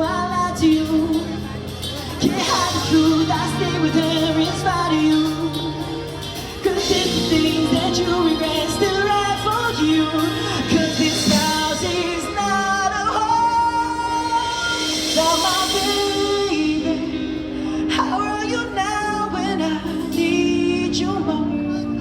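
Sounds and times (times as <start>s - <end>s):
person singing: 0.0s - 22.0s
sustained bass notes: 0.0s - 22.0s.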